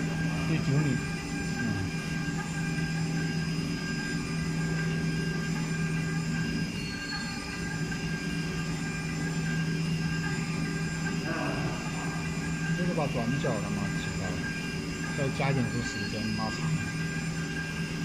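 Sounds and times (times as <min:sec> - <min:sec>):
low machine hum: 0:00.0 - 0:18.0
milling machine spindle whine: 0:00.0 - 0:18.0.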